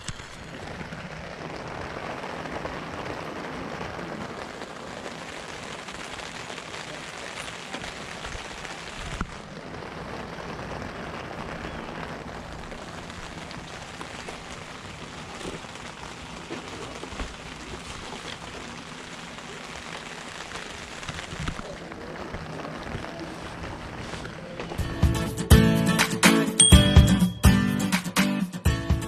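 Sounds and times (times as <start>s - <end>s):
steady rain: 0.0s - 26.7s.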